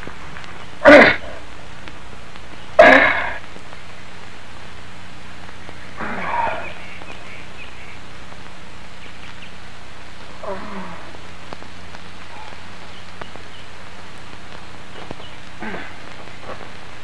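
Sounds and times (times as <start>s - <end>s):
faint clicks: 0.0s - 9.6s, 10.2s - 16.8s
low hum: 0.0s - 17.0s
steady hiss: 0.0s - 17.0s.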